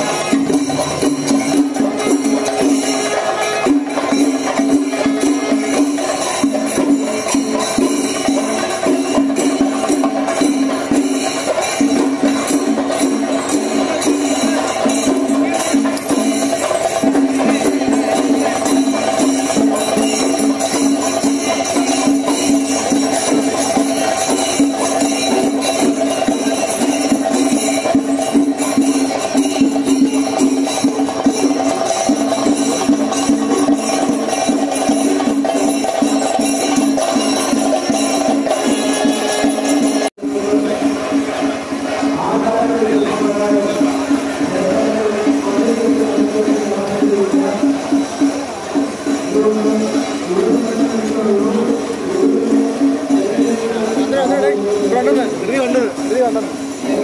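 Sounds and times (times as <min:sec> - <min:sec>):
clashing cymbals: 0:00.0 - 0:57.0
fast drumming: 0:00.0 - 0:57.0
wind instrument repeated notes: 0:00.0 - 0:57.0.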